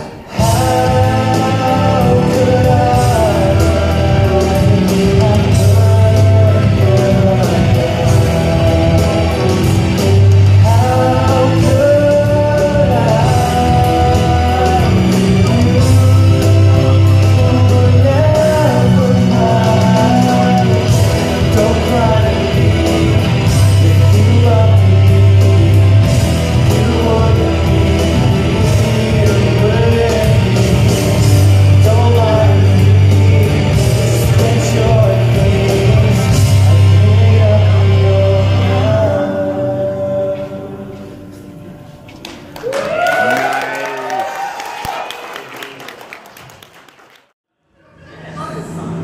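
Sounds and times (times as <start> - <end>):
man singing into microphone: 0.0 - 41.7
rock backing track over speakers: 0.0 - 42.7.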